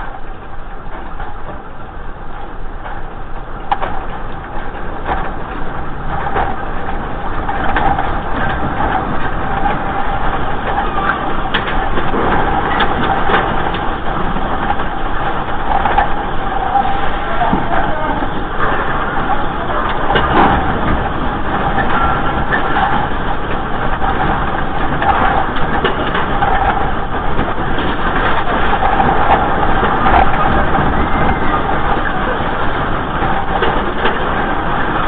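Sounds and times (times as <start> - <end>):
deep earthquake rumble: 0.0 - 35.0
objects rattling and knocking: 2.8 - 35.0.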